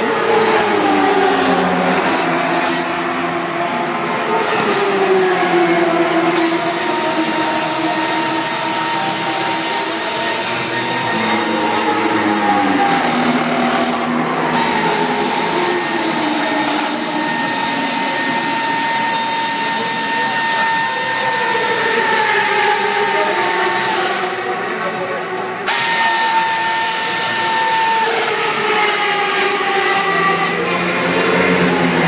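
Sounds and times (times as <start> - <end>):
racing motorcycle engines whining: 0.0 - 32.0.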